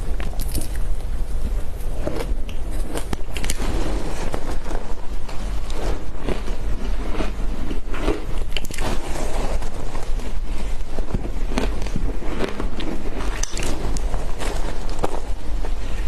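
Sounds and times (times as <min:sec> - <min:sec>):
shaved ice crunching when chewed: 0:00.0 - 0:16.0
steady low hum: 0:00.0 - 0:16.0.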